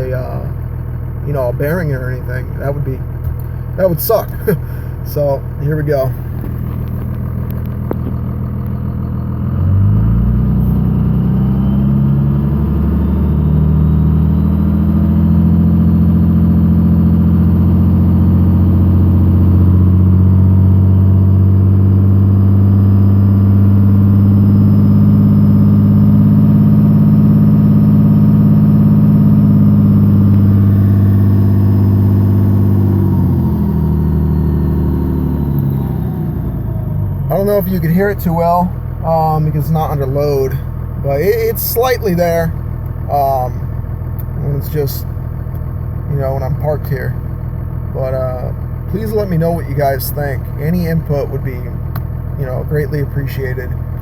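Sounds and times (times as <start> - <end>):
diesel engine idling and revving: 0.0 - 54.0
engine thumping: 0.0 - 54.0.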